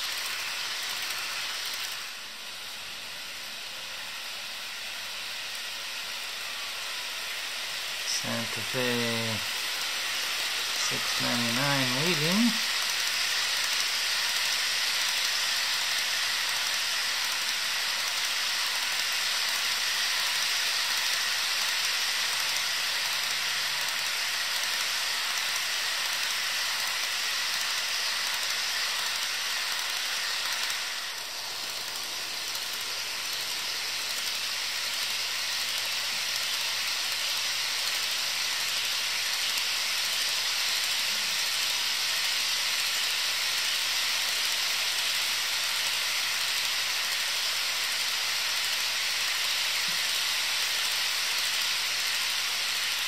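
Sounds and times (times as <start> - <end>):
model train wheels on rails: 0.0 - 53.0.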